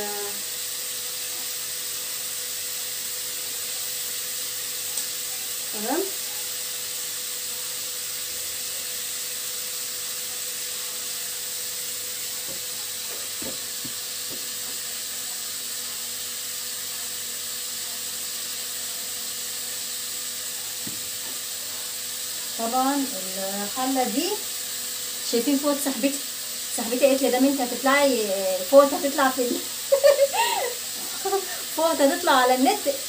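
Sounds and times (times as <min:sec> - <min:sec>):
beef sizzling in a pot: 0:00.0 - 0:33.0.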